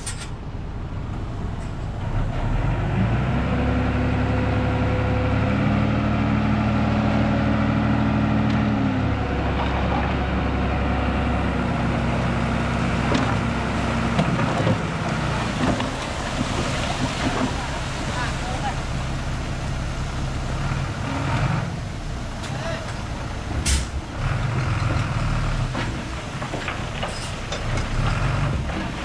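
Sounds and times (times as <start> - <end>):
diesel engine working under load: 0.0 - 29.0.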